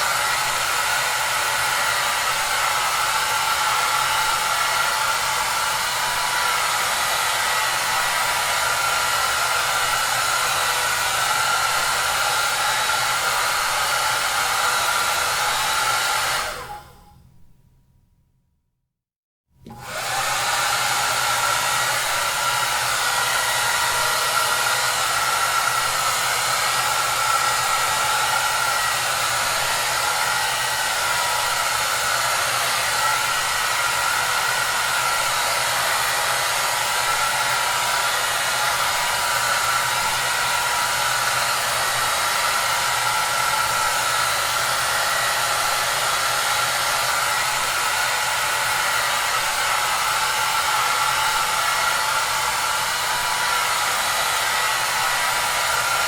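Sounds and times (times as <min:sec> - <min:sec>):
hair dryer running: 0:00.0 - 0:17.1, 0:19.6 - 0:56.0.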